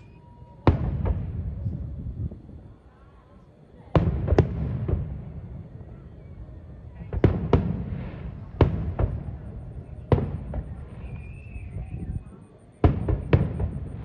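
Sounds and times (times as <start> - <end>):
fireworks bangs: 0.0 - 2.8, 3.7 - 14.0.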